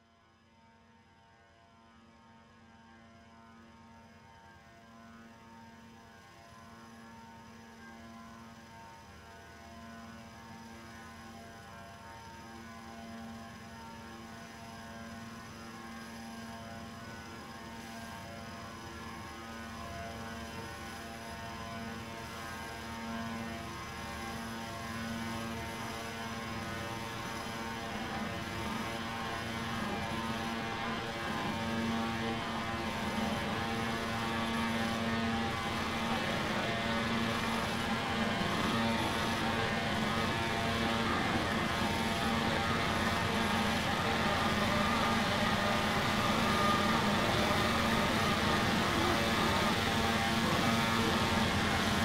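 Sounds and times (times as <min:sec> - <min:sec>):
droning hum of held tones: 0:02.4 - 0:52.0.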